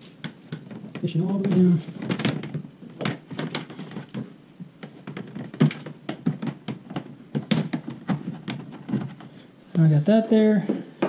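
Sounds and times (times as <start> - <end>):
cable knocking on plastic hull: 0.2 - 9.2.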